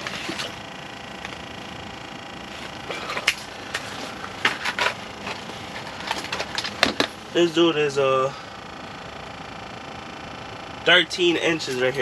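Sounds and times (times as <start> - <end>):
faint steady tones: 0.0 - 12.0
steady hum: 0.0 - 12.0.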